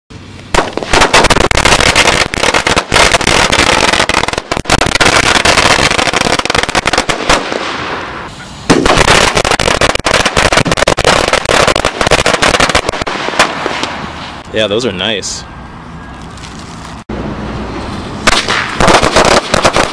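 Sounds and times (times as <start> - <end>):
firecrackers crackling: 0.2 - 14.4, 17.8 - 19.9.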